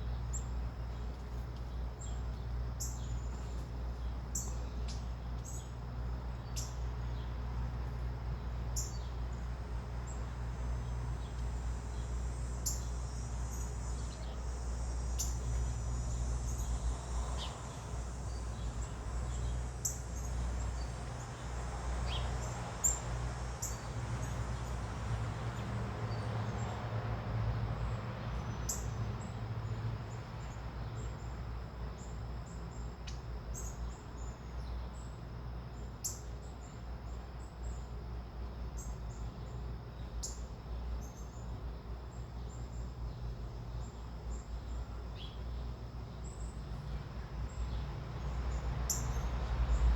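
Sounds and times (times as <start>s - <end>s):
small birds chirping: 0.0s - 26.8s, 27.8s - 37.9s, 38.7s - 49.9s.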